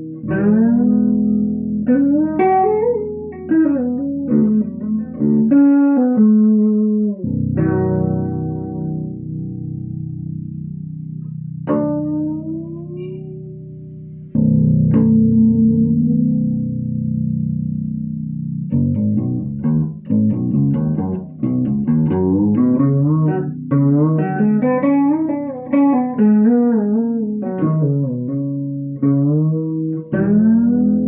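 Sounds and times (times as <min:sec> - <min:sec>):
fretless bass guitar notes: 0:00.0 - 0:31.0.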